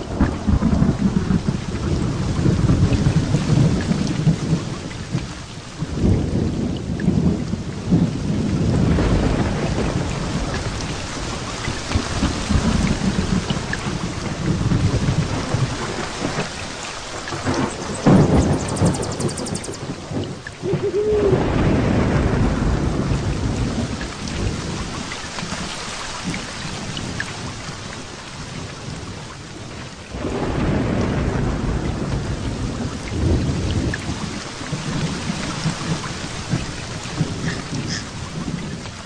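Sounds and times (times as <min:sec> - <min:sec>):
heavy rain: 0:00.0 - 0:39.0
thunder rumbling: 0:00.0 - 0:39.0.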